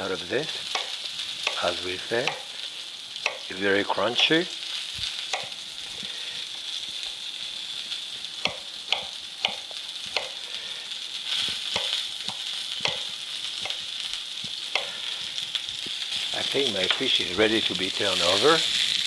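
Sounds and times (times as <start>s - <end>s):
fish sizzling in a skillet: 0.0s - 19.0s.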